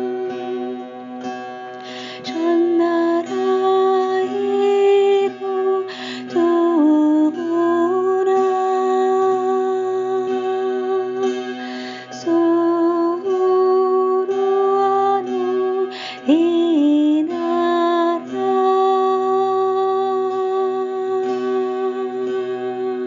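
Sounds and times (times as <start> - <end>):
woman singing long notes: 2.2 - 23.0.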